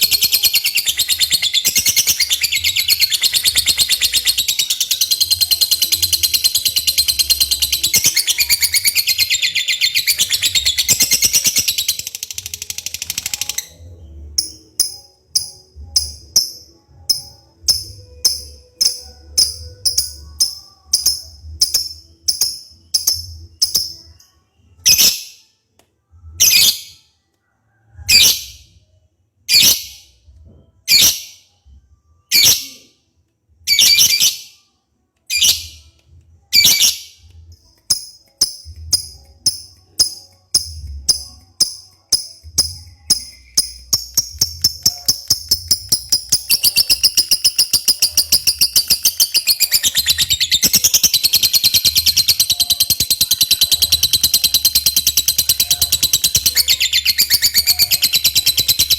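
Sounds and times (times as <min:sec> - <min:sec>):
lovebird chirping: 0:00.0 - 0:25.4, 0:36.5 - 0:58.9.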